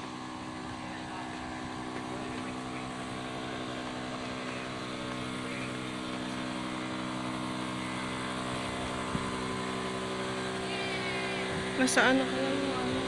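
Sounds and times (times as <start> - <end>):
steady engine drone: 0.0 - 13.0.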